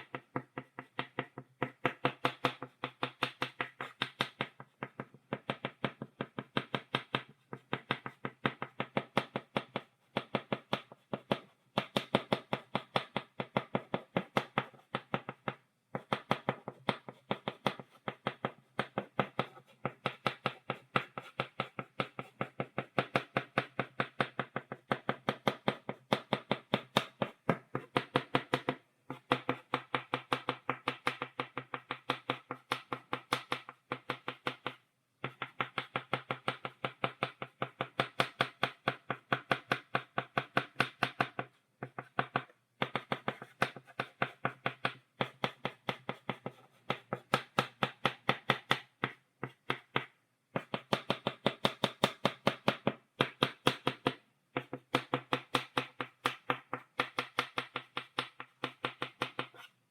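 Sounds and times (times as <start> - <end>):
chalk tapping on blackboard: 0.0 - 59.9.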